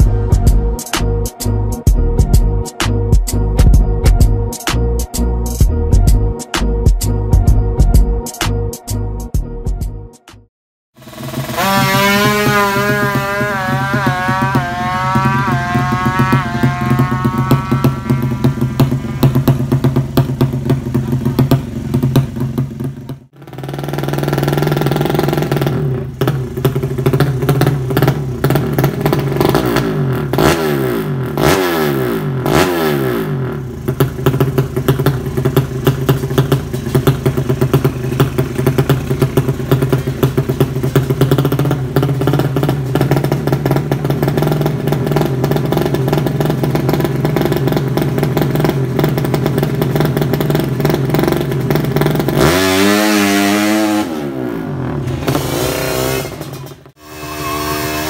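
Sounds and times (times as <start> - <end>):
motorcycle engine revving: 10.9 - 58.0.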